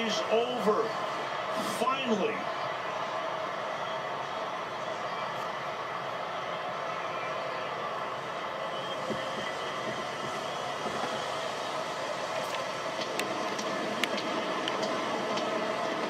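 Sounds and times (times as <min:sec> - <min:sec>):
stadium crowd cheering on television: 0:00.0 - 0:16.0.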